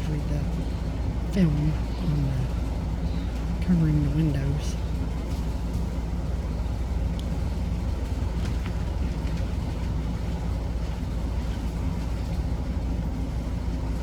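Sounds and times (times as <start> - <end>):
low rumble and hum: 0.0 - 14.0.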